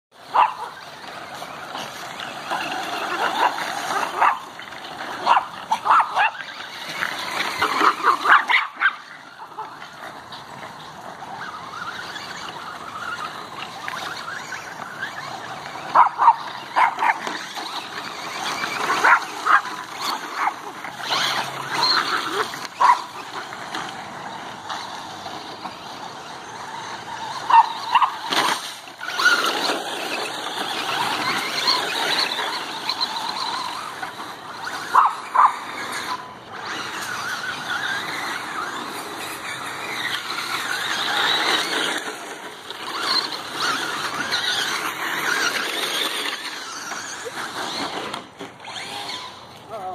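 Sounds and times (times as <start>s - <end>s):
small dogs barking and yipping: 0.2s - 49.9s.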